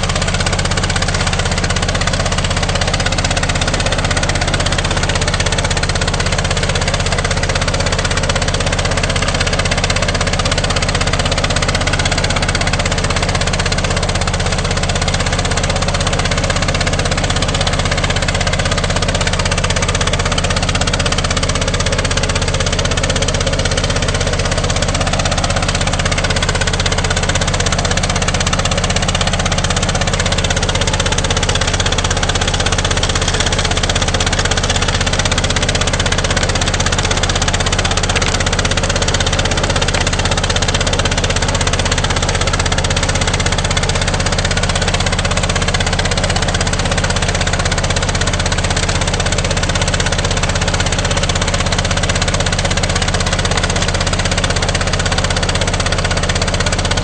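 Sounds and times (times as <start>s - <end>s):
water gushing and churning: 0.0s - 56.9s
engine and pump running: 0.0s - 57.0s.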